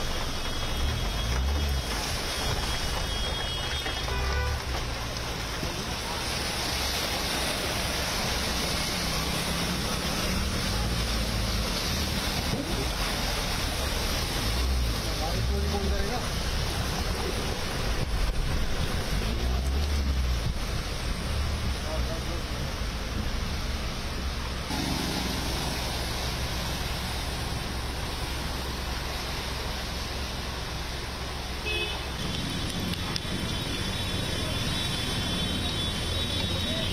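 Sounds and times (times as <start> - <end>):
engines rumbling: 0.0 - 36.9
heavy rain: 0.0 - 36.9
rushing floodwater: 0.0 - 36.9
water splashing: 0.0 - 36.9.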